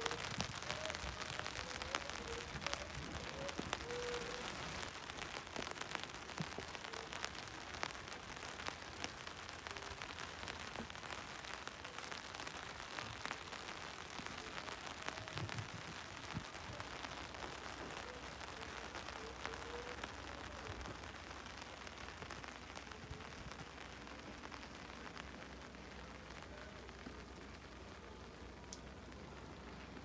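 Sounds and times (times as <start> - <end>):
rain falling: 0.0 - 30.0
raindrops ticking: 0.0 - 30.0.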